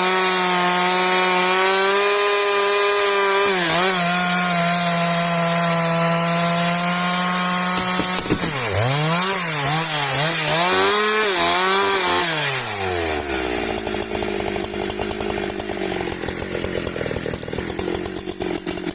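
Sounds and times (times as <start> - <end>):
chainsaw cutting wood: 0.0 - 18.9.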